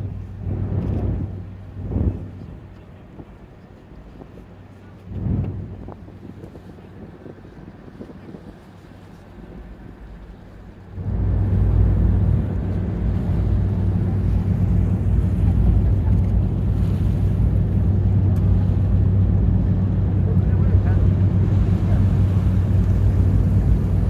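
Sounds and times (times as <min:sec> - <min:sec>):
boat engine low drone: 0:00.0 - 0:24.0
wind on microphone: 0:00.0 - 0:24.0.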